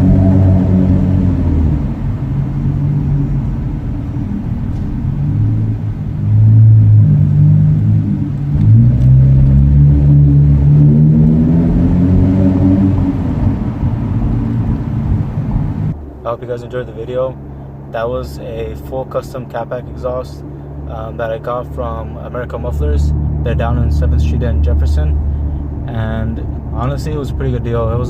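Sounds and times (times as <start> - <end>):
car exhaust note: 0.0 - 28.0.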